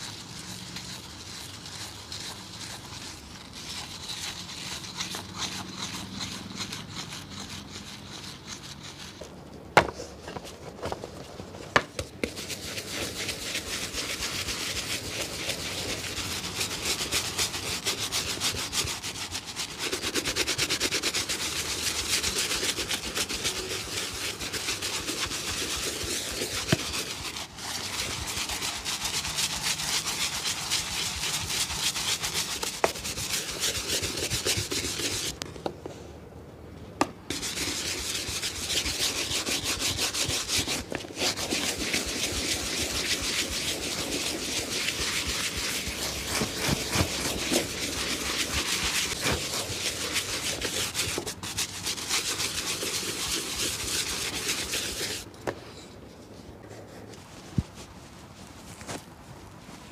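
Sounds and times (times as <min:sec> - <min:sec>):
rubbing strokes on a shoe: 0:00.0 - 0:35.4, 0:37.3 - 0:55.3, 0:56.3 - 0:59.9.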